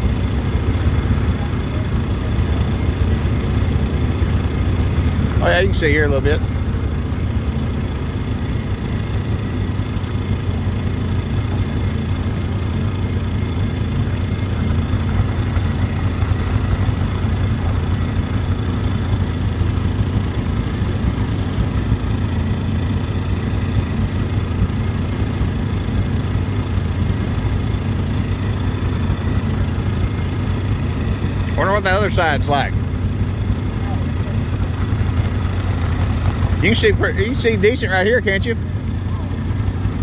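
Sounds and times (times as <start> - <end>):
small boat engine humming: 0.0 - 40.0.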